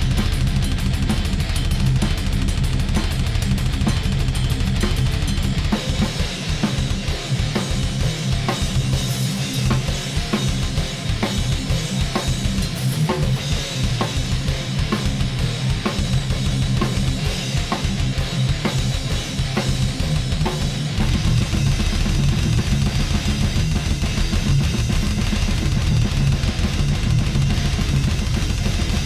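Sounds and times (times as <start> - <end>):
double bass kick drum: 0.0 - 29.0
guitar track: 0.0 - 29.0.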